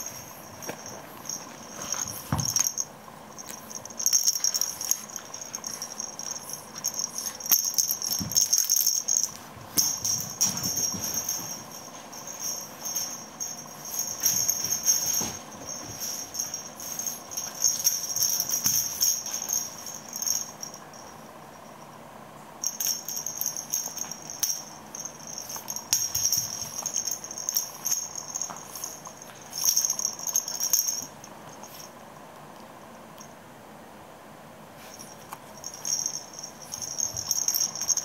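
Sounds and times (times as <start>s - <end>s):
high bell-like jingling: 0.0s - 21.9s, 22.6s - 31.9s, 34.8s - 38.0s.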